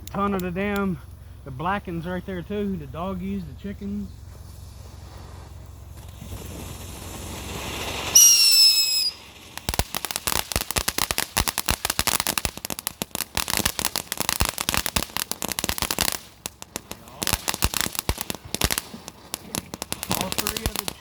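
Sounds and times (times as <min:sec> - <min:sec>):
firecrackers popping and crackling: 0:00.0 - 0:21.0
firework hiss and whistle: 0:04.1 - 0:21.0.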